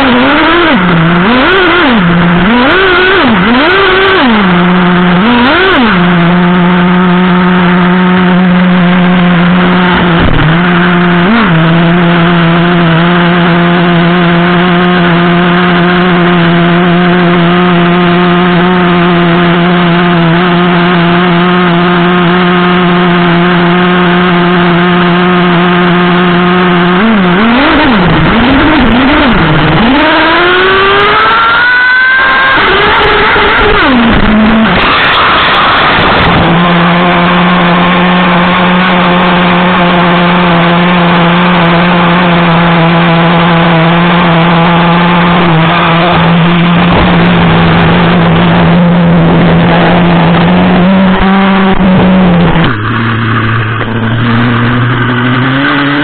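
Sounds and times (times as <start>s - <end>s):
nitro rc truck engine revving: 0.0s - 56.0s.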